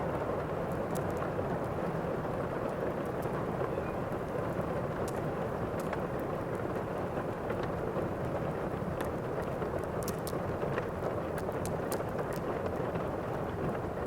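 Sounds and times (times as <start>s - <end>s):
steady rain: 0.0s - 14.0s
wood fire crackling: 0.1s - 14.0s.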